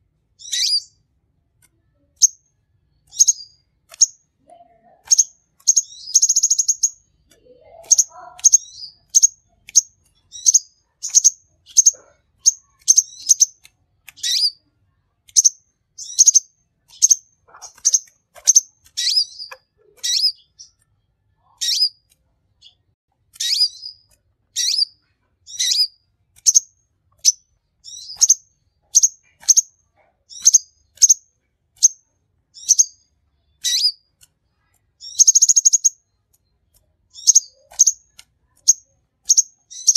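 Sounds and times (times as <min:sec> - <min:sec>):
bird chirping: 0:00.3 - 0:01.0, 0:01.9 - 0:39.9
buzzy bird trill: 0:00.4 - 0:01.0, 0:03.0 - 0:04.2, 0:04.8 - 0:14.6, 0:15.3 - 0:20.8, 0:21.4 - 0:22.8, 0:23.4 - 0:31.2, 0:31.8 - 0:34.1, 0:35.0 - 0:36.2, 0:37.1 - 0:39.9.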